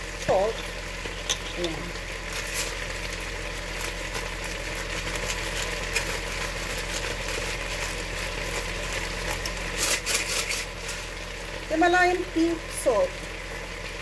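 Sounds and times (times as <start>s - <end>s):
steady low hum: 0.0s - 14.0s
vegetables sizzling in a pan: 0.0s - 14.0s.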